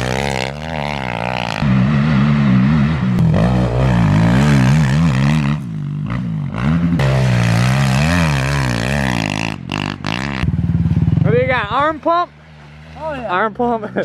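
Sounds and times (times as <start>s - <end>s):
pit bike engine revving: 0.0s - 13.5s.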